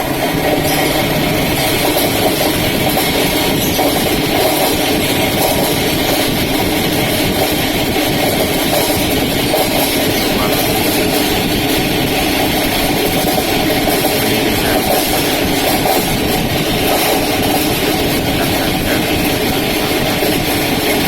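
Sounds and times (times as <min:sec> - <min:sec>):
centrifuge motor spinning: 0:00.0 - 0:21.0.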